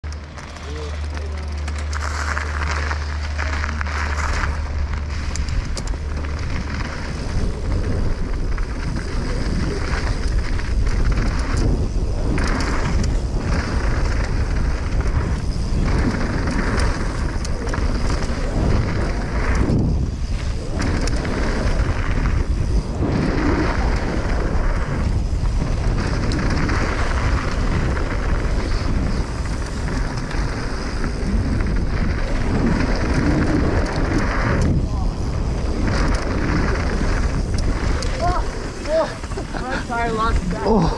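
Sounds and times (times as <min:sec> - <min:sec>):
bike tyres rolling on gravel: 0:00.0 - 0:40.9
wind rushing over microphone: 0:00.0 - 0:40.9.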